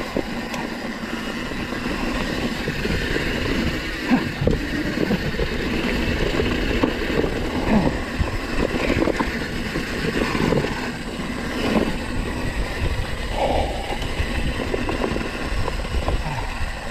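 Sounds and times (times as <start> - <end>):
bike rattling and knocking: 0.0 - 16.9
tyres running on dirt: 0.0 - 16.9
wind rushing over microphone: 1.5 - 16.9.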